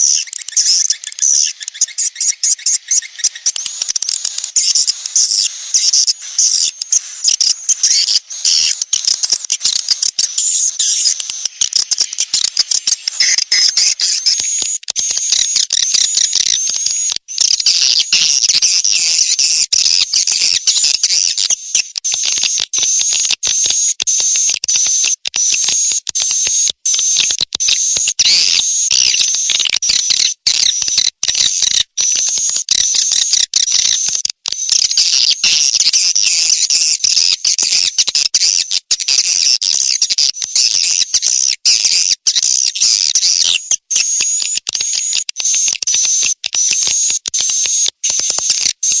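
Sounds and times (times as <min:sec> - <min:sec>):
recorded swiftlet chirps: 0:00.0 - 0:49.0.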